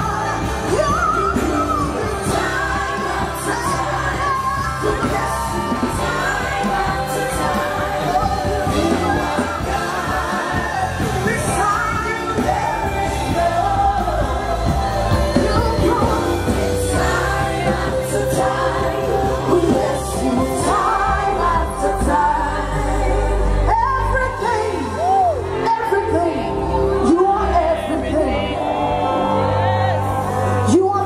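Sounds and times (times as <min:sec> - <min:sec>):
backing vocalist singing: 0:00.0 - 0:31.0
band with steady bass: 0:00.0 - 0:31.0
woman singing into microphone: 0:00.0 - 0:31.0.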